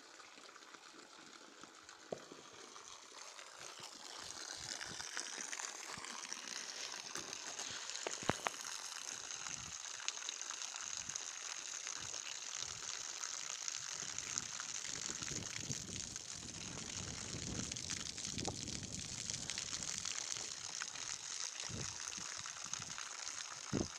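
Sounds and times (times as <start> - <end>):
water pouring onto mud: 0.0 - 23.9.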